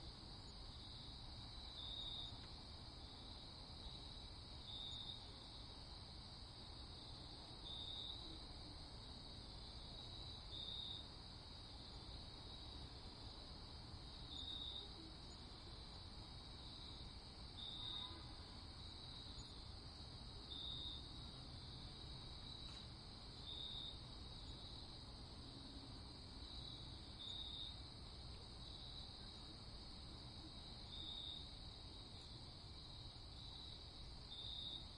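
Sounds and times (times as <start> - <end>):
cricket chirp: 0.0 - 34.9
crickets trilling: 0.0 - 34.9.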